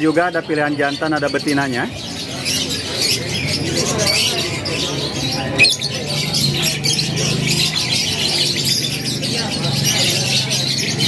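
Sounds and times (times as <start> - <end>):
canaries chirping: 0.0 - 11.0
faint voices: 0.0 - 11.0.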